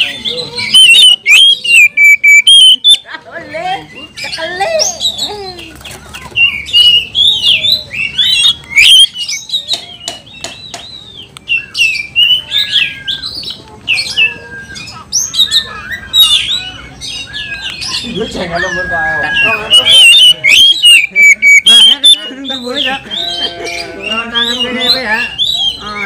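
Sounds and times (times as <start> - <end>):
bird singing: 0.0 - 26.0.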